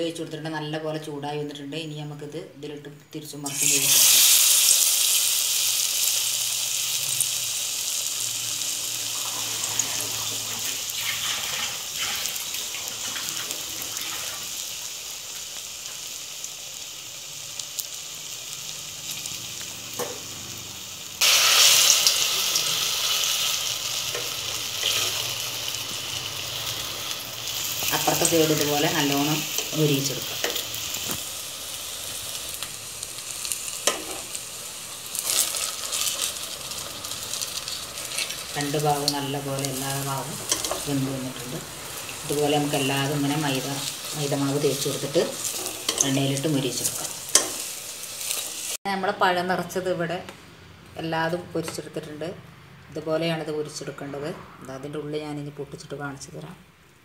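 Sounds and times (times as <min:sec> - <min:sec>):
plantain frying in a pan: 0:03.4 - 0:50.2.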